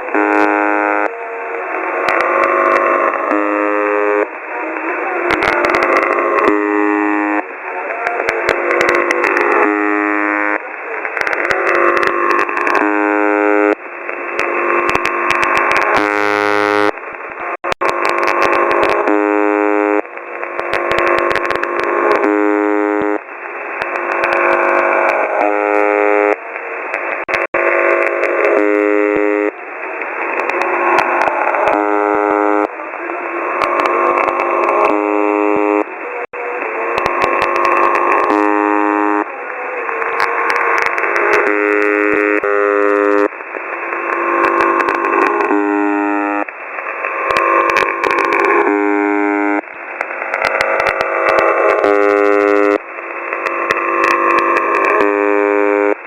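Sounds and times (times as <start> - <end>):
pulsing radio buzzing tone: 0.0 - 56.0
radio clicks: 0.0 - 56.0
radio interference noise: 0.0 - 56.0.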